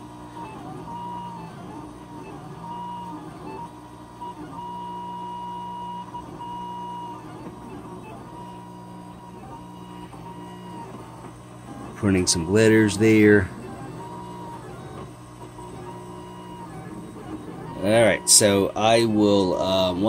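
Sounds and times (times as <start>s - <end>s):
steady low hum: 0.0s - 20.0s
stepper motors whining: 0.3s - 20.0s.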